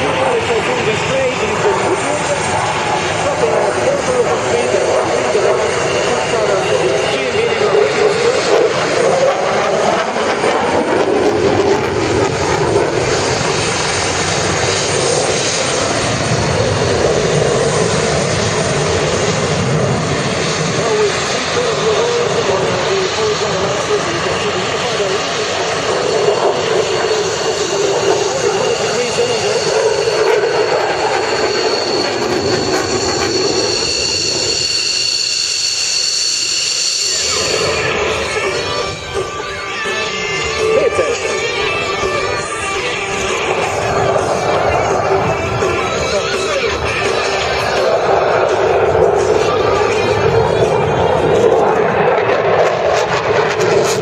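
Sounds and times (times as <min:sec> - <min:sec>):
fighter jet flying: 0:00.0 - 0:54.0
high-pitched whining tones: 0:00.0 - 0:54.0.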